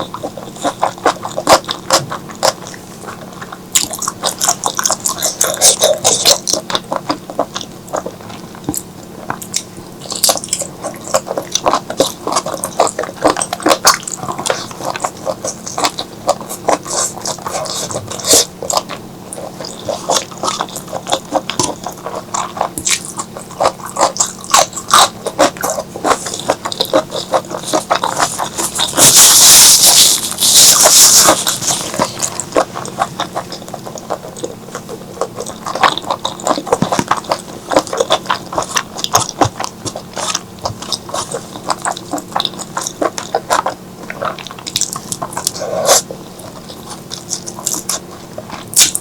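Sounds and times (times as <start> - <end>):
wet chewing and lip-smacking: 0.0 - 49.0.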